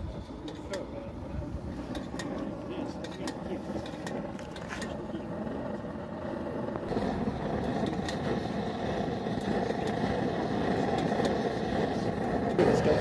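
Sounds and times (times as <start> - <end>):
blowlamp flame rushing: 0.0 - 13.0.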